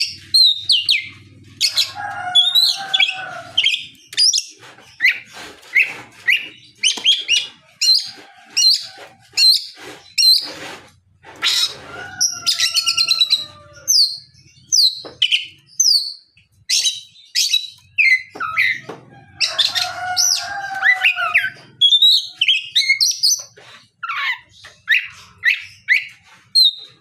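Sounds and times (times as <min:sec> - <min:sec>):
songbird whistling and chirping: 0:00.0 - 0:10.5, 0:11.4 - 0:18.8, 0:19.4 - 0:27.0.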